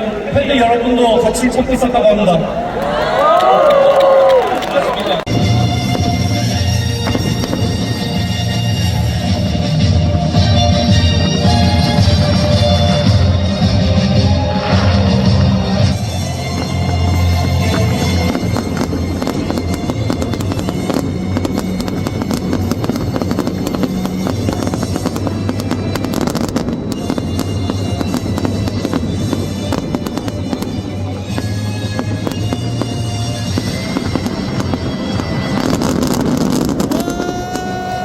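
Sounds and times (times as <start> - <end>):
fireworks popping and crackling: 4.0 - 38.0
loud music: 5.3 - 38.0.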